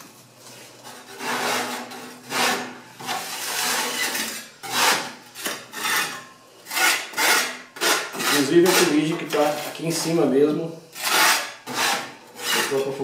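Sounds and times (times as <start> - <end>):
metal spatula scraping soot: 0.4 - 10.3, 10.9 - 13.0.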